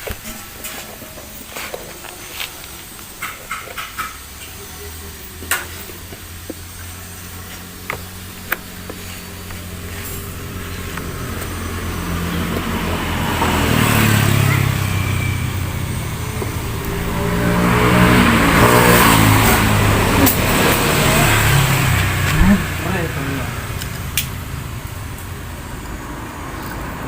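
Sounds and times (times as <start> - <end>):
engine revving: 4.4 - 27.0.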